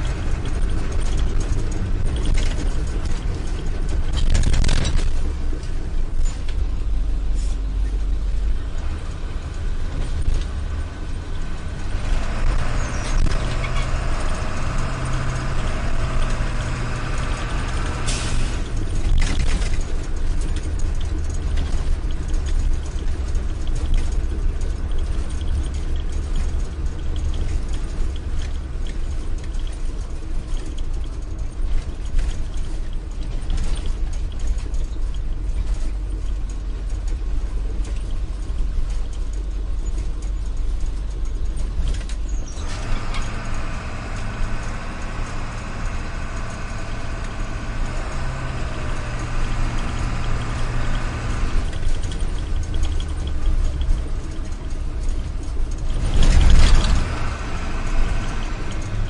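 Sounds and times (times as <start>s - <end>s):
engine hum with high whine: 0.0s - 59.0s
engine rumbling with rattling clicks: 0.0s - 59.0s.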